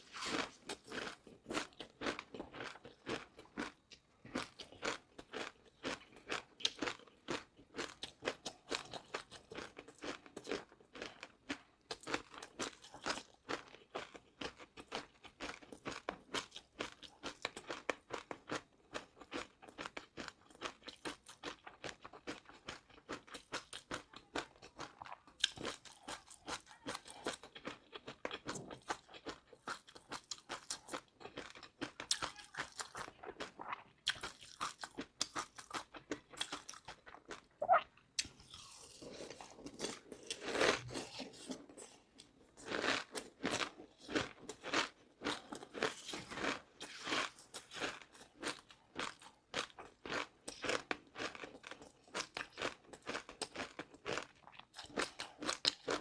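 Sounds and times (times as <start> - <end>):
chewing crunchy food: 0.0 - 56.0.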